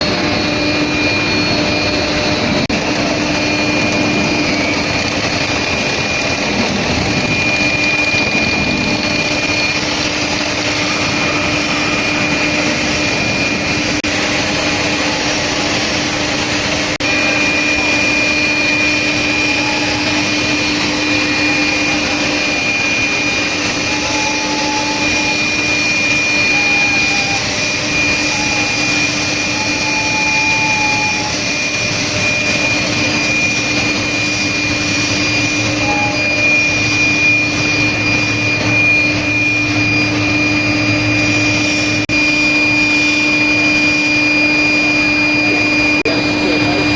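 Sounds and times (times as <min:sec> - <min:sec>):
high machine whine: 0:00.0 - 0:46.9
low machine hum: 0:00.0 - 0:46.9
machinery rushing noise: 0:00.0 - 0:46.9.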